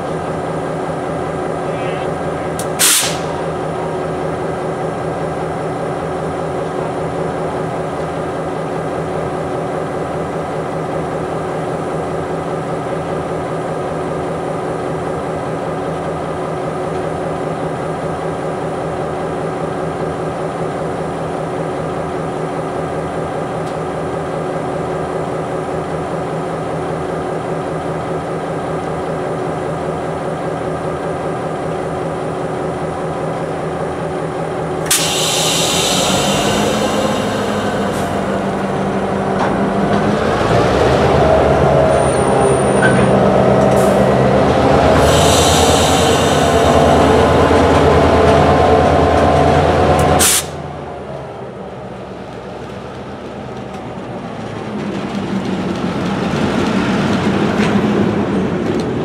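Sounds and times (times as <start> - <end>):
diesel locomotive idling: 0.0 - 59.0.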